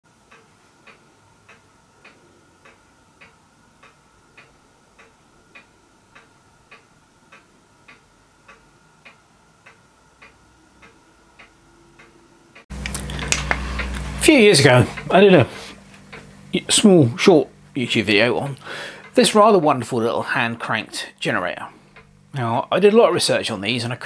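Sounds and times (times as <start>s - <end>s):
faint steady hum: 0.1s - 24.0s
regular ticking: 0.1s - 24.0s.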